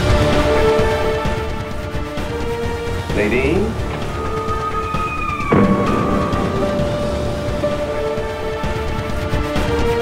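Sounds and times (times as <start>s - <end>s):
music with sustained notes: 0.0s - 10.0s.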